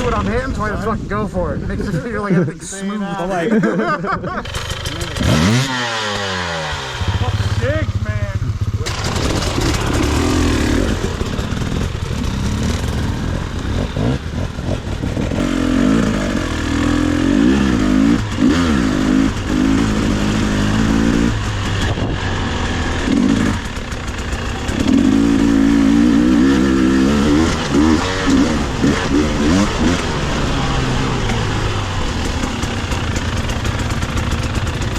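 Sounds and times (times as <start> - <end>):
dirt bike engine revving: 4.0 - 34.9.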